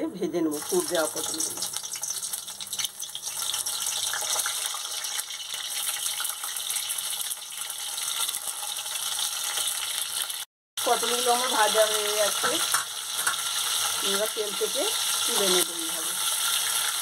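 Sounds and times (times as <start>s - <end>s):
oil sizzling in a wok: 0.5s - 17.0s.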